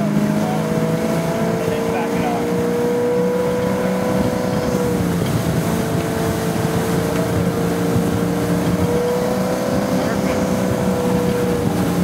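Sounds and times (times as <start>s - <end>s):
boat engine running: 0.0s - 12.0s
water rushing past: 0.0s - 12.0s.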